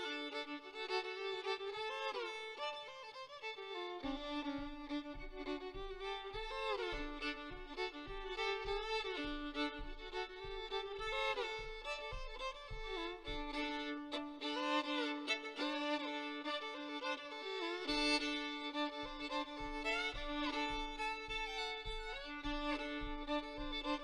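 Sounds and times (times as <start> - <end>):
fiddle playing a tune: 0.0 - 24.0
low rhythmic thumps: 0.0 - 24.0.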